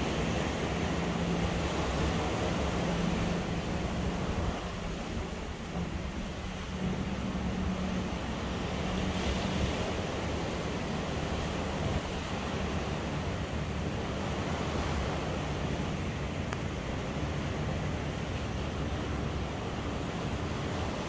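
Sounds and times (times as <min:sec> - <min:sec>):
ocean surf washing onto beach: 0:00.0 - 0:21.0
wind on microphone: 0:00.0 - 0:21.0.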